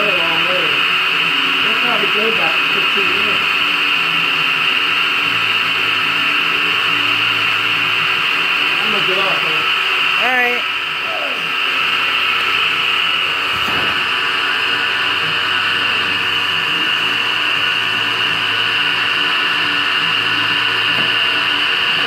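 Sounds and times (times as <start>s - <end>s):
pottery wheel motor whine: 0.0s - 22.0s.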